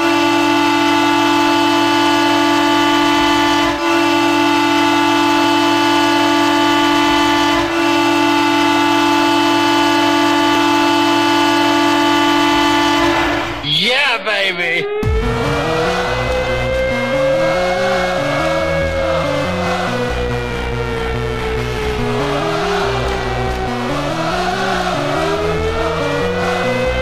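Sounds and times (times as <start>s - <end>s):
hockey goal horn: 0.0s - 13.6s, 14.9s - 27.0s.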